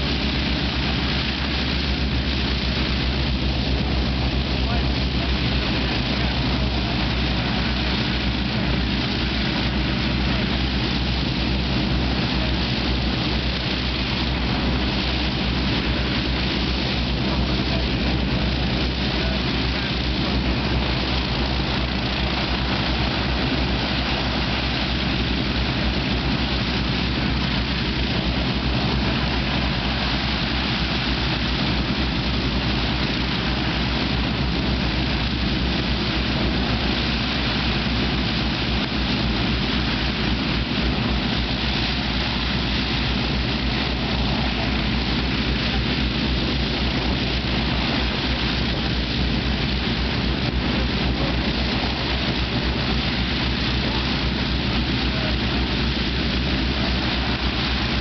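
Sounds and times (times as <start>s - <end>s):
aircraft piston engines droning: 0.0s - 58.0s.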